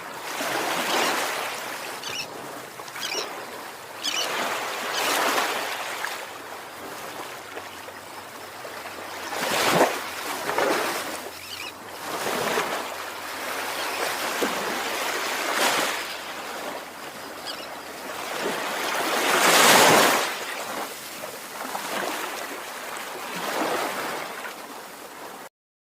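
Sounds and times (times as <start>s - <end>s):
ocean waves breaking: 0.0s - 25.5s.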